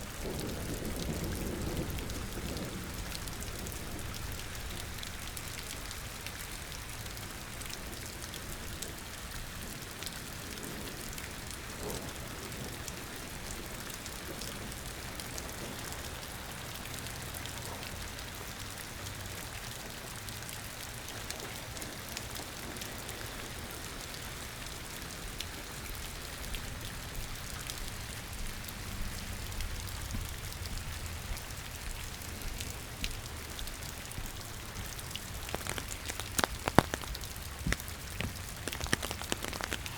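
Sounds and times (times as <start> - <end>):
rain drops tapping: 0.0 - 39.9
steady rain hiss: 0.0 - 39.9.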